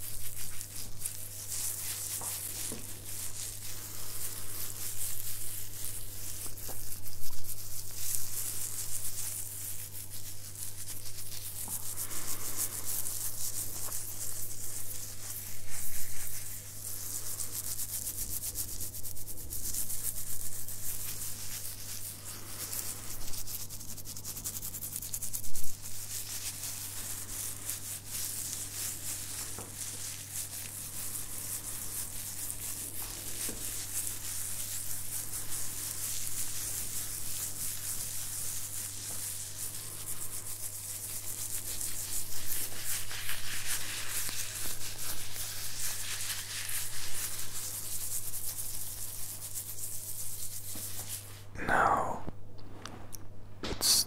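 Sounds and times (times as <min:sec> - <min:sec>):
steady low hum: 0:00.0 - 0:41.0, 0:51.3 - 0:54.0
fingertips scratching a beard: 0:00.0 - 0:52.0.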